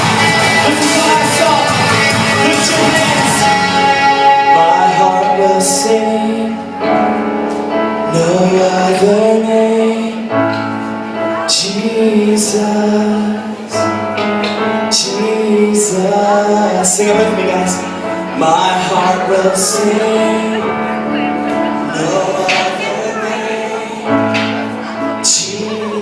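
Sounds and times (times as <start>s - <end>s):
man and woman singing: 0.0s - 6.8s, 8.0s - 10.4s, 11.4s - 13.8s, 14.9s - 26.0s
live band playing: 0.0s - 26.0s.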